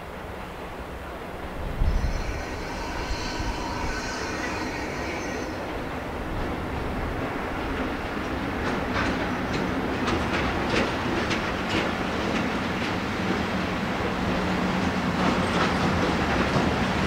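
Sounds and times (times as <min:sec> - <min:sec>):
train wheels clacking over rail joints: 0:02.2 - 0:17.0.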